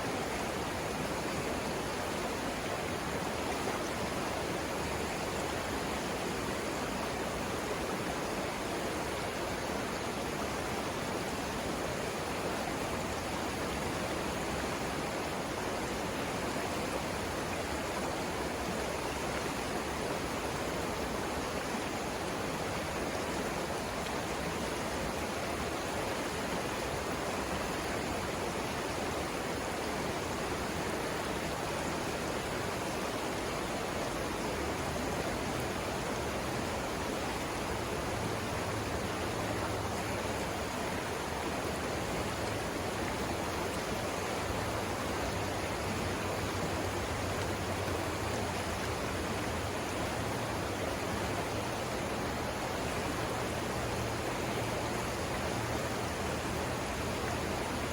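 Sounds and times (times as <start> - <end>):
river water rushing over rapids: 0.0 - 57.9.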